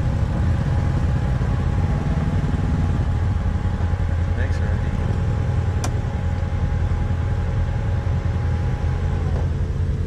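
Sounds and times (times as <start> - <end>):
utility vehicle engine idling: 0.0 - 10.0.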